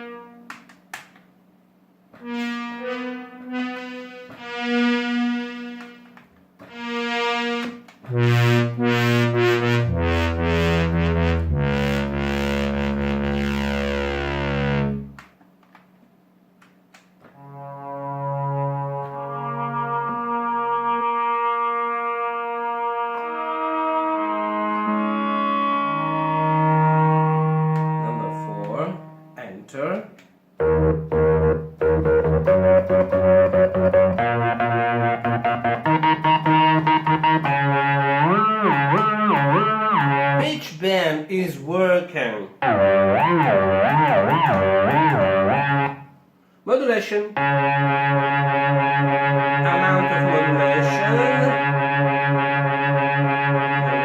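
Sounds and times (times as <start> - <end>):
synthesizer chord: 2.2 - 15.3, 17.3 - 29.4, 30.6 - 40.5, 42.6 - 46.1, 47.4 - 54.0.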